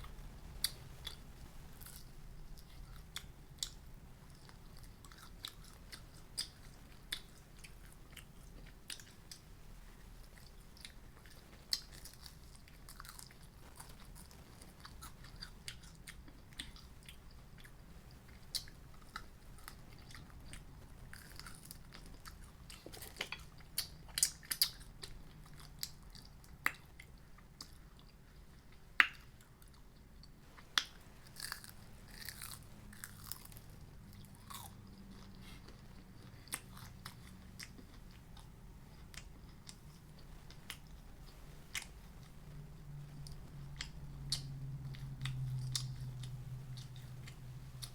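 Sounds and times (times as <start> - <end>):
person chewing crunchy food: 0.0 - 9.5, 10.1 - 42.3, 43.0 - 47.9.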